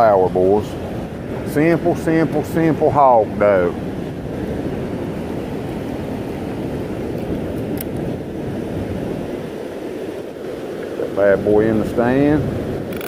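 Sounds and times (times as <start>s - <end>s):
river rapids roaring: 0.0s - 13.0s.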